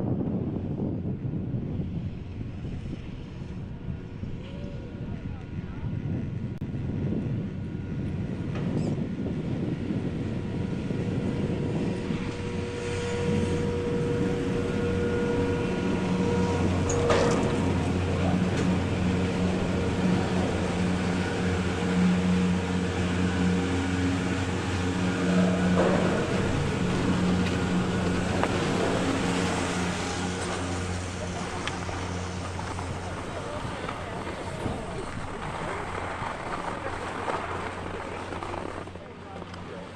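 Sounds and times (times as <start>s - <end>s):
chairlift machinery humming: 0.1s - 39.9s.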